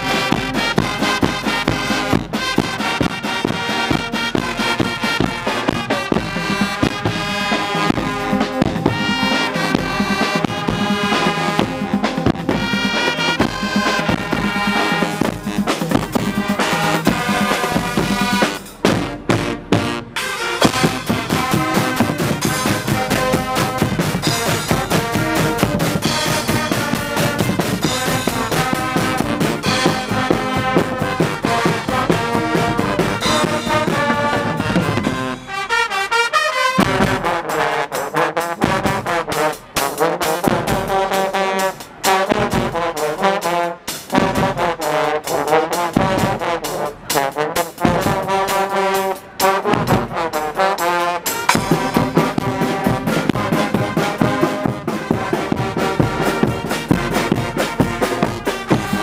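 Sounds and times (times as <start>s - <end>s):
brass band playing: 0.0s - 59.0s
drum kit with cymbals: 0.0s - 59.0s.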